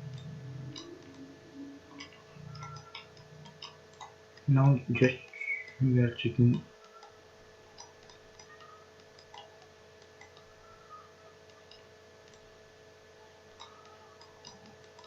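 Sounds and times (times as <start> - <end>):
computer mouse clicks: 0.0 - 1.3, 1.9 - 5.8, 6.5 - 12.5, 13.5 - 15.0
low electrical hum: 0.0 - 15.0.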